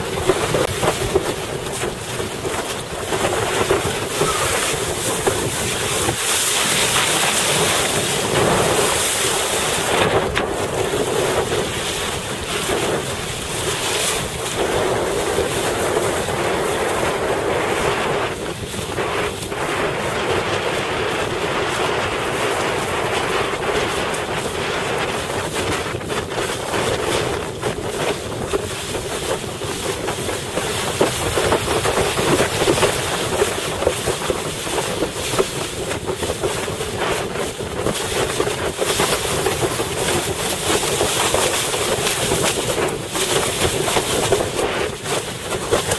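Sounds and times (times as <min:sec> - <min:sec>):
water rushing and splashing: 0:00.0 - 0:45.9
wind noise on microphone: 0:00.0 - 0:45.9.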